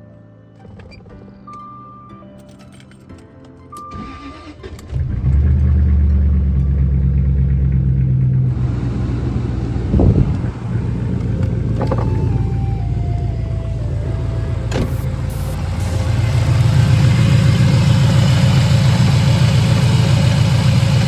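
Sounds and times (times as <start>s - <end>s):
car engine starting and idling: 3.8s - 21.0s.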